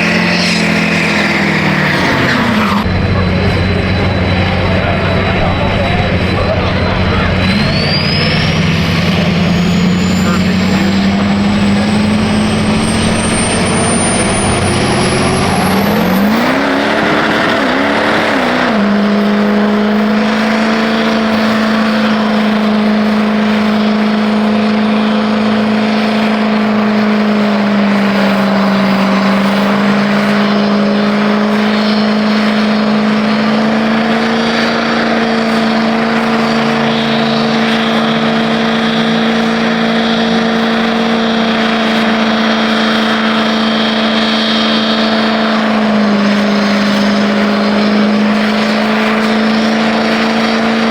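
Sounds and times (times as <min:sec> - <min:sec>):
loud rushing noise: 0:00.0 - 0:50.9
truck engine revving hard: 0:00.0 - 0:50.9.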